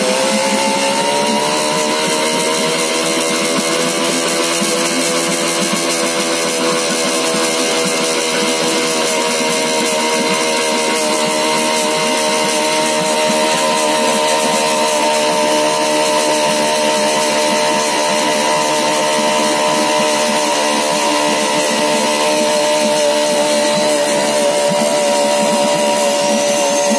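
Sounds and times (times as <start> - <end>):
small outboard engine running: 0.0 - 26.9.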